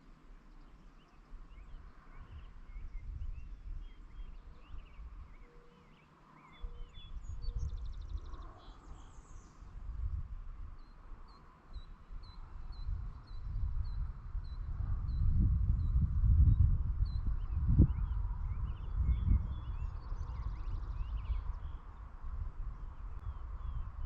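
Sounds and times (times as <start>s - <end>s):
small birds chirping: 0.0s - 24.0s
wind rumble on microphone: 0.6s - 5.6s, 6.5s - 24.0s.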